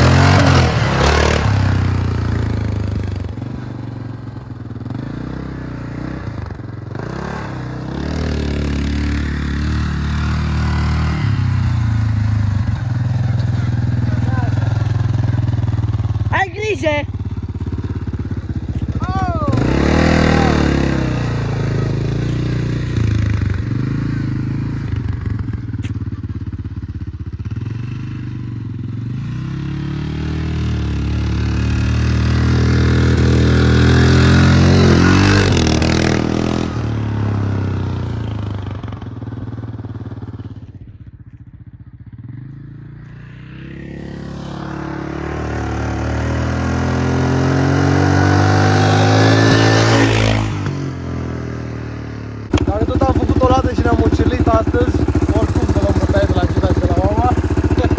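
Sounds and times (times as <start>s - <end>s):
quad bike engine revving: 0.0s - 40.7s, 42.0s - 57.9s.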